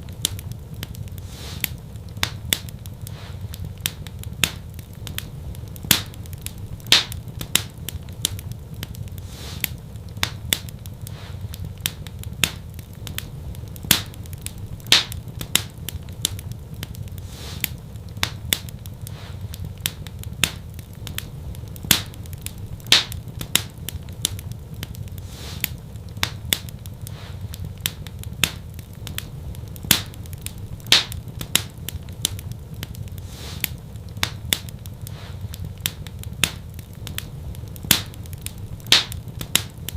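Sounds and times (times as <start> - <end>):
fireplace fire crackling and popping: 0.0 - 39.9
low steady rumble: 0.0 - 39.9.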